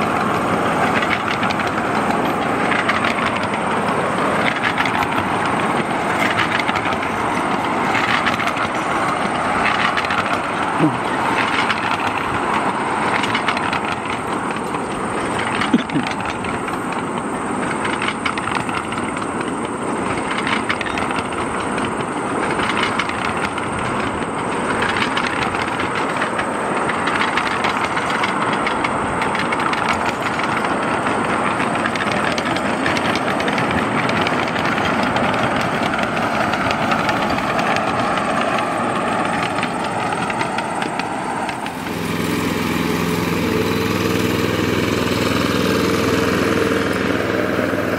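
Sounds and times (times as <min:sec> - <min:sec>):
steel wheels clattering over track: 0:00.0 - 0:47.9.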